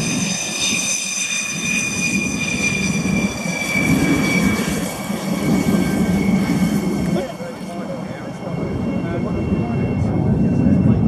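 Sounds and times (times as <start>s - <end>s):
jet engine turbine whine: 0.0s - 11.0s.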